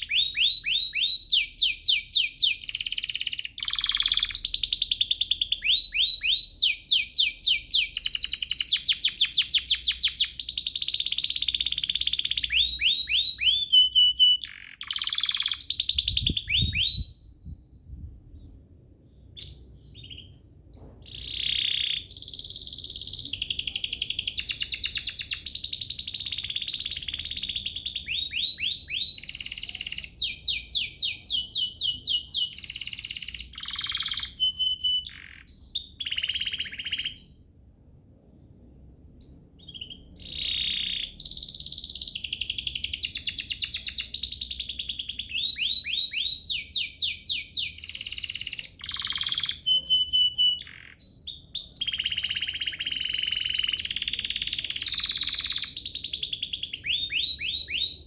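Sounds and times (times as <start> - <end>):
canary singing trills: 0.0 - 17.9, 19.2 - 37.4, 39.2 - 58.0.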